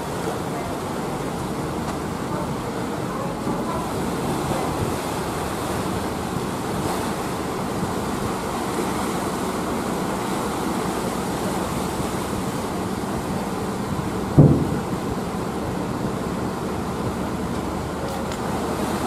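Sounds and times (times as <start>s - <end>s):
churning water: 0.0s - 19.0s
ferry engine rumble: 0.0s - 19.0s.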